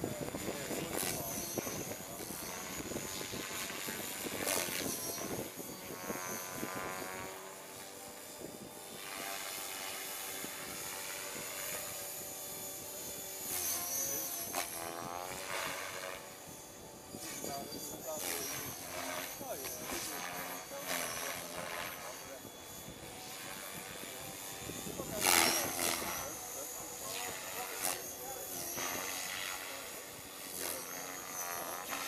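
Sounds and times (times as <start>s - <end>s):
model helicopter whine: 0.0s - 32.0s.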